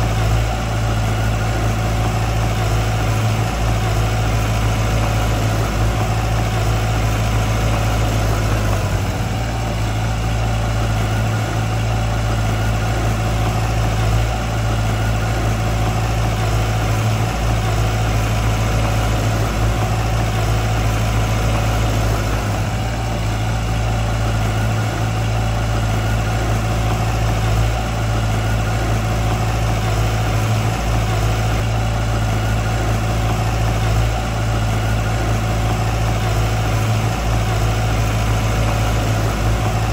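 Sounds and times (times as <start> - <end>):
diesel engine running at low revs: 0.0 - 39.9.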